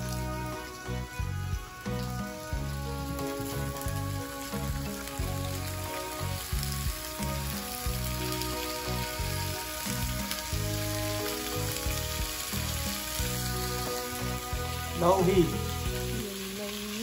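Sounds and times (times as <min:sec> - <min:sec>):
background music with bass line: 0:00.0 - 0:16.3
sausages sizzling in a frying pan: 0:00.0 - 0:17.0.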